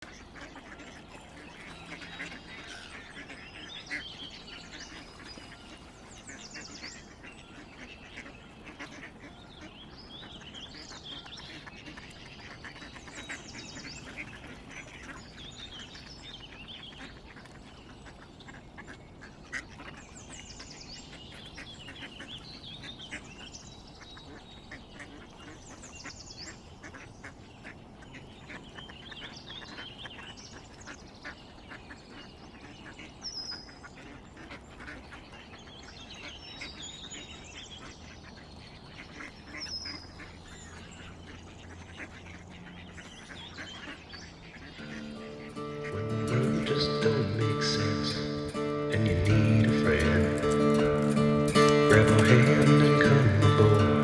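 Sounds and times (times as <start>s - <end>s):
ducks quacking: 0.0s - 54.0s.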